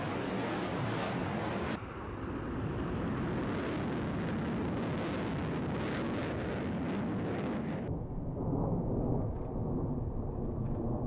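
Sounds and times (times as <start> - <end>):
jet engine roar overhead: 0.0 - 11.0.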